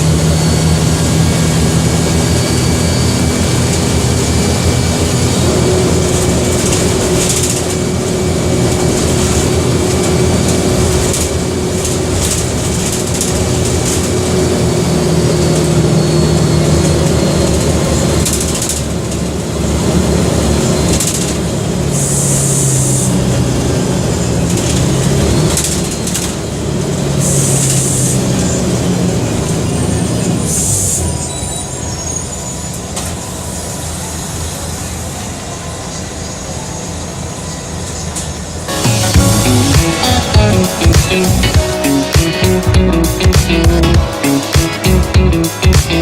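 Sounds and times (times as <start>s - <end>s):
diesel bus engine running: 0.0s - 46.0s.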